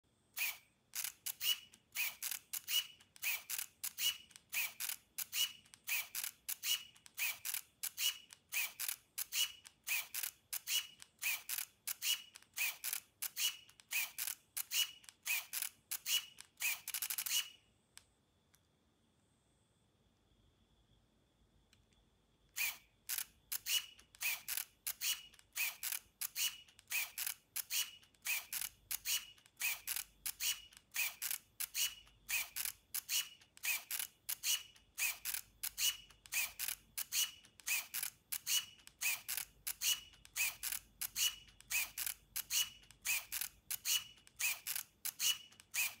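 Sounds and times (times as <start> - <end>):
camera shutter firing with whir: 0.4 - 17.6, 22.6 - 46.0.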